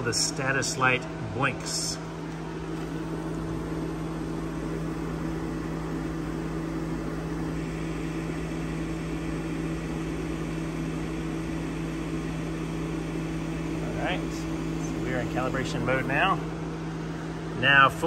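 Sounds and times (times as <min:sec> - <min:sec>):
fan motor humming: 0:00.0 - 0:18.0.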